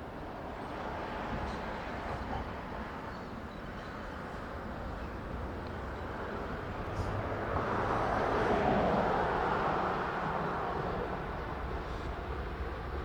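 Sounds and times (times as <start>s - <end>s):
train approaching rumble and hiss: 0.0s - 13.0s.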